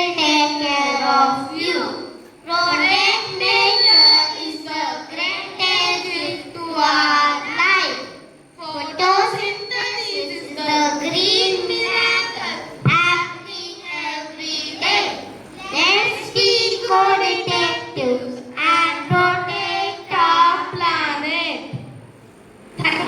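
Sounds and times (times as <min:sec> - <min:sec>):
children singing: 0:00.0 - 0:08.2, 0:08.8 - 0:21.2.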